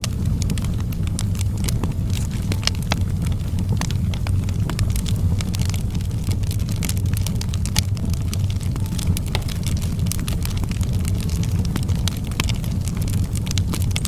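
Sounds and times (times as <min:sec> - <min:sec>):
low rumble of fire: 0:00.0 - 0:14.0
wood fire crackling and popping: 0:00.0 - 0:14.0.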